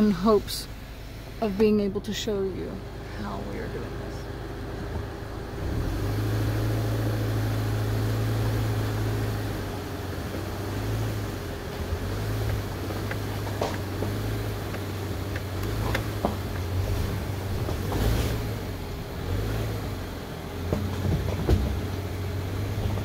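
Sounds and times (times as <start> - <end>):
car engine pulling at low speed: 0.0 - 23.0.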